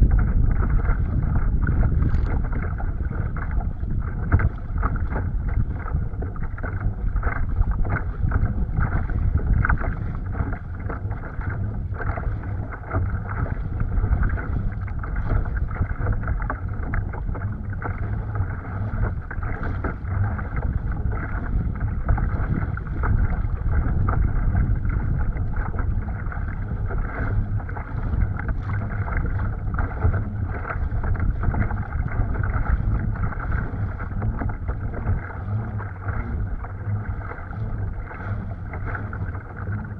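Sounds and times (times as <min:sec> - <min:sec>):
water splashing along hull: 0:00.0 - 0:39.9
wind buffeting microphone: 0:00.0 - 0:39.9.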